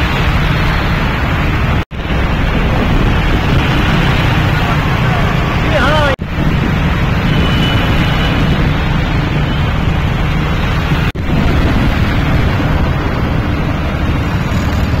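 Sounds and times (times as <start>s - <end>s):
vehicle noise: 0.0s - 15.0s
wind buffeting microphone: 0.0s - 15.0s.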